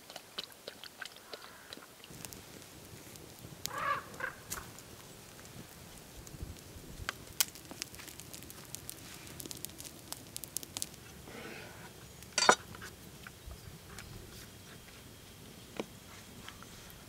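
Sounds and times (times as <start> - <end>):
wood fire crackling and popping: 2.0 - 17.0.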